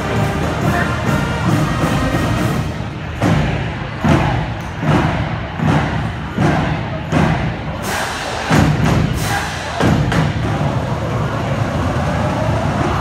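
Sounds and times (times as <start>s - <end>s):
loud continuous din with music: 0.0s - 13.0s.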